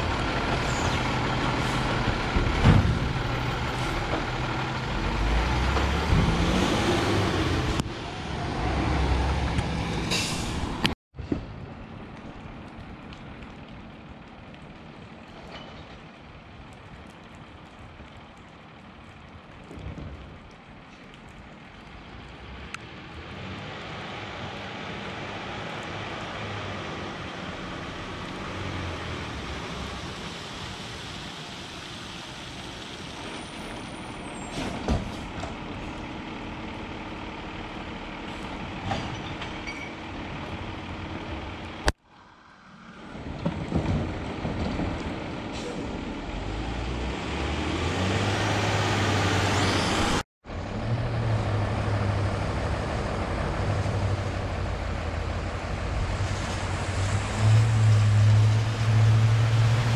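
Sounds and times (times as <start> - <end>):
distant traffic: 0.0 - 59.9
truck engine: 0.0 - 59.9.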